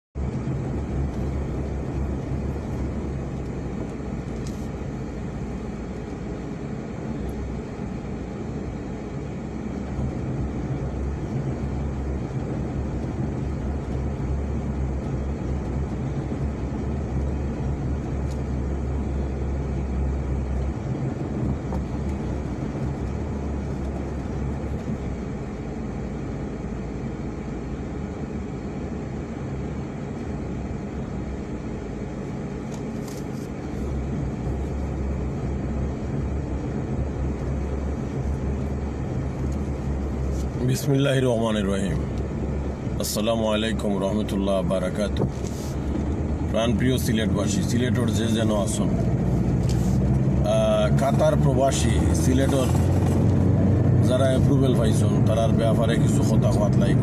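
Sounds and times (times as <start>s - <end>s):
car engine and cabin rumble: 0.1s - 57.0s.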